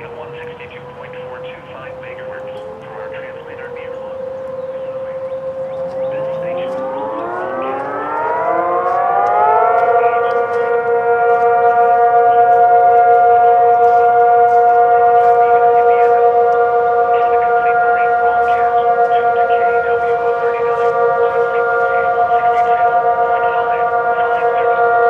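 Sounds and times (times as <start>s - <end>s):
tornado warning sirens: 0.0s - 25.0s.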